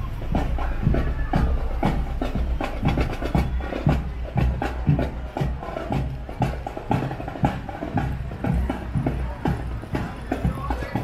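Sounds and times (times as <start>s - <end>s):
drums: 0.0s - 11.0s.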